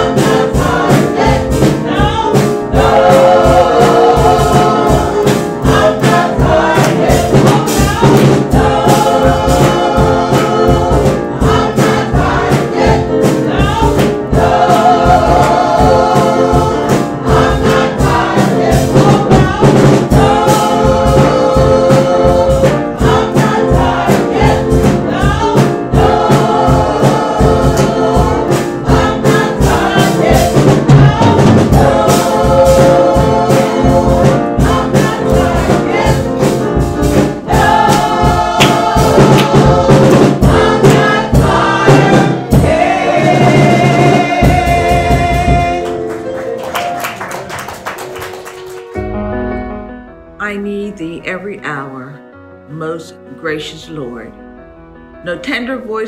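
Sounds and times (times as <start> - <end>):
gospel choir singing: 0.0 - 48.3
instrumental accompaniment with beat: 0.0 - 50.2.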